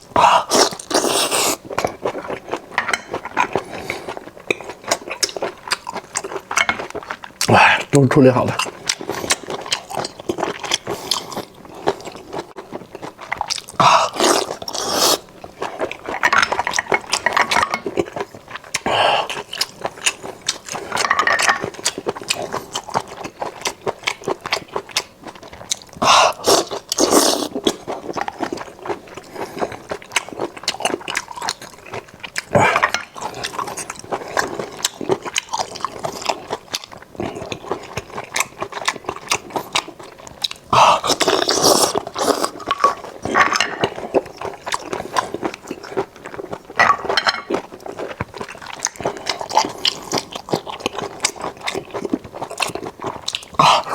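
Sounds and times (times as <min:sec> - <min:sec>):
person chewing: 0:00.0 - 0:53.9.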